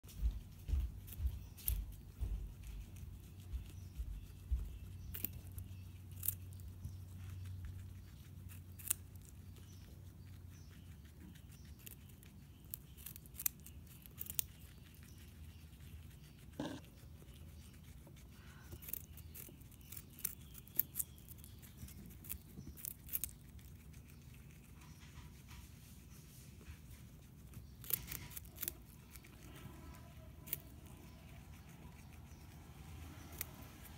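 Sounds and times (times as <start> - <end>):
guinea pig chewing carrot: 0.0 - 33.9.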